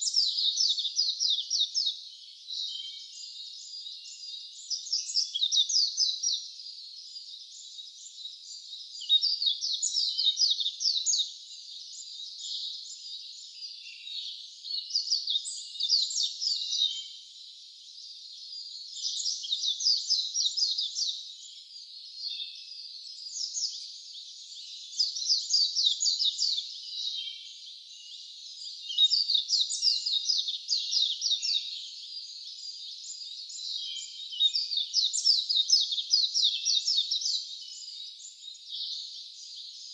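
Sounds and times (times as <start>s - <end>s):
songbird trilling song: 0.0s - 39.9s.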